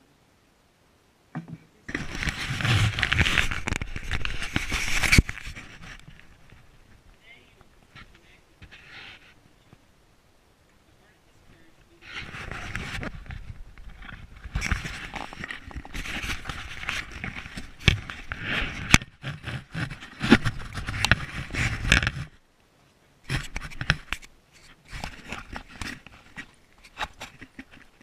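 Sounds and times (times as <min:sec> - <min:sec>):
camera rubbing and scraping: 0:01.9 - 0:09.8, 0:11.5 - 0:22.4, 0:23.3 - 0:28.0.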